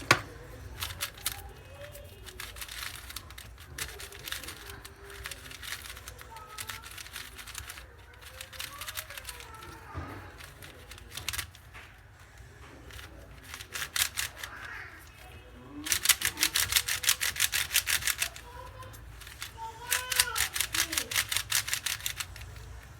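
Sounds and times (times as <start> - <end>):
puzzle cube clicking turns: 0.0 - 11.7, 12.3 - 22.9.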